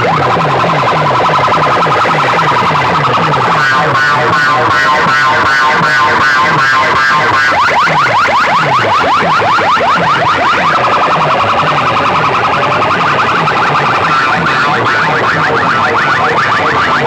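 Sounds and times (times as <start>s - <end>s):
pulsing bass beat: 0.0s - 17.0s
siren-like electronic sweep: 0.0s - 17.0s
wavering alarm tone: 0.0s - 17.0s.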